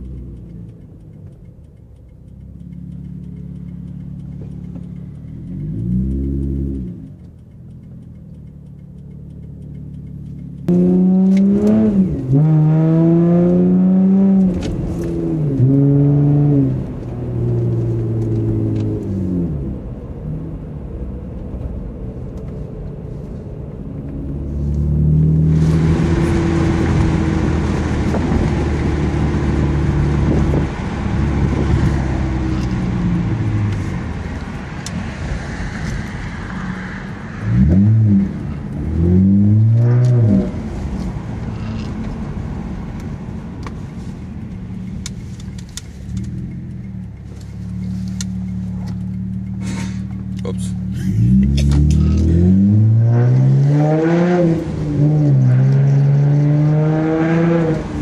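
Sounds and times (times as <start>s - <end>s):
car engine revving: 0.0s - 58.0s
wind and road noise: 0.0s - 58.0s.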